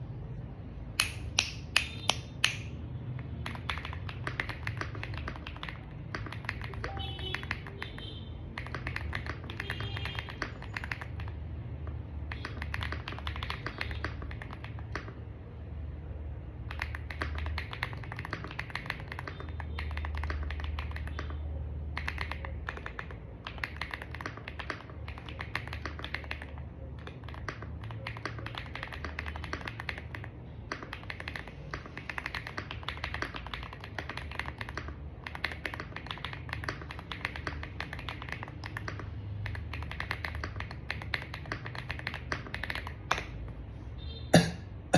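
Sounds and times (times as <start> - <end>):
mechanical keyboard typing: 1.0 - 15.3, 16.5 - 43.4.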